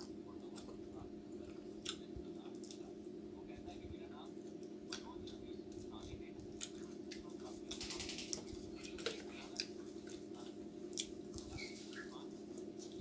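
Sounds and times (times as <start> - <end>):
wet chewing and lip-smacking: 0.5 - 2.9, 4.5 - 13.0.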